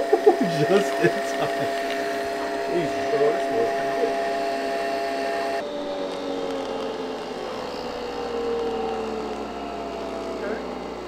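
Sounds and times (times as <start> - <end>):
coffee machine whirring: 0.0 - 11.0.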